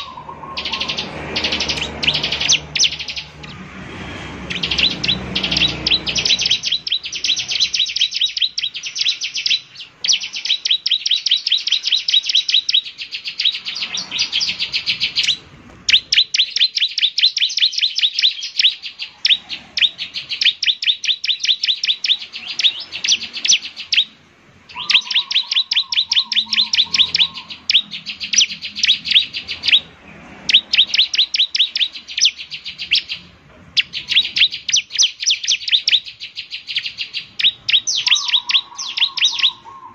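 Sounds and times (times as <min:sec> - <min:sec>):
bird rapid chattering song: 0:00.0 - 0:39.9.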